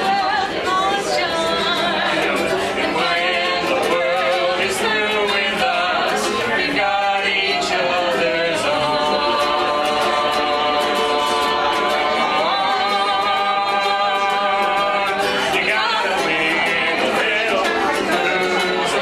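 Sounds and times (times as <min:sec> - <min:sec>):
voices singing in harmony: 0:00.0 - 0:19.0.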